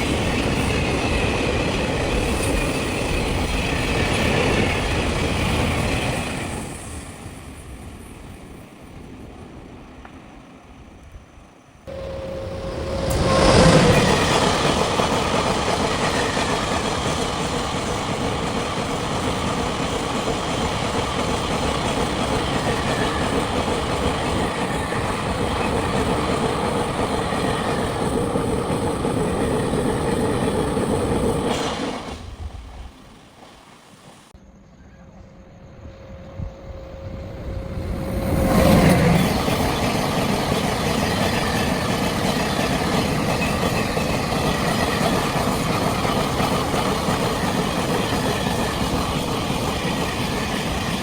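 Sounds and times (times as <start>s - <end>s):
train wheels rushing on rail: 0.0s - 51.0s.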